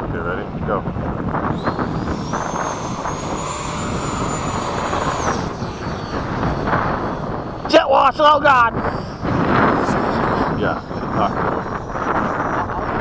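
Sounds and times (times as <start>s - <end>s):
wind rumble on microphone: 0.0s - 13.0s
electric fan motor whine: 1.1s - 13.0s.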